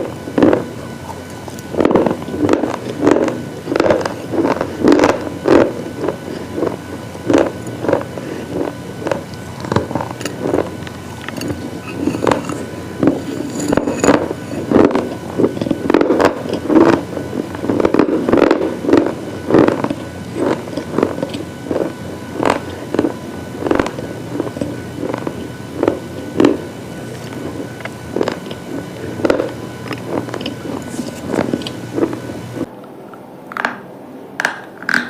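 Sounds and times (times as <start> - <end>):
crunchy chewing: 0.0 - 32.6.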